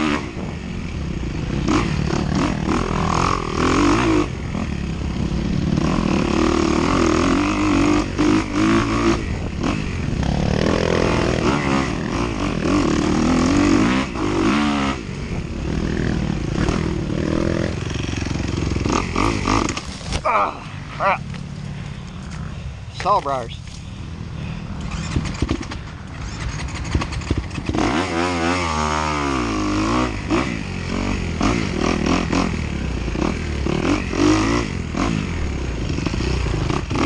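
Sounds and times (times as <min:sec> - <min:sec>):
dirt bike engine revving: 0:00.0 - 0:21.6, 0:24.2 - 0:37.0.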